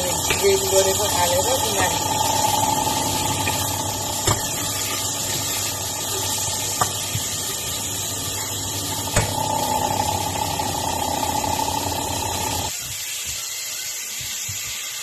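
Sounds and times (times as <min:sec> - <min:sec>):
steady hum: 0:00.0 - 0:12.7
chicken sizzling in hot oil: 0:00.0 - 0:15.0.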